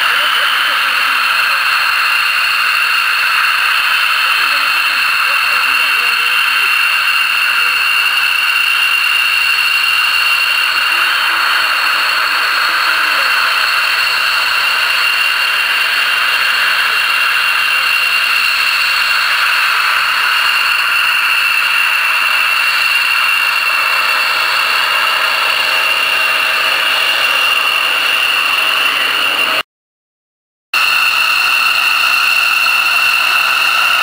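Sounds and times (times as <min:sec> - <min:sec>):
jet engines whining: 0:00.0 - 0:29.6, 0:30.8 - 0:34.0.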